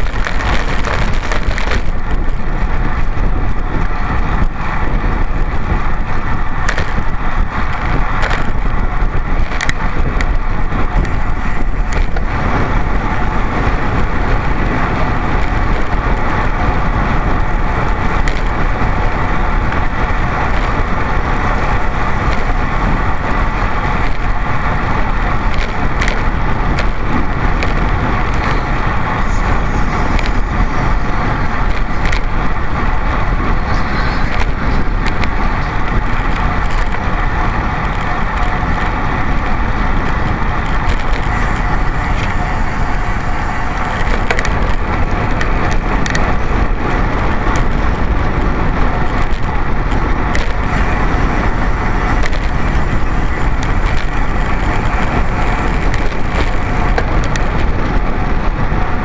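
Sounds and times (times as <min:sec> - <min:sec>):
bicycle mount rattling: 0:05.6 - 0:58.9.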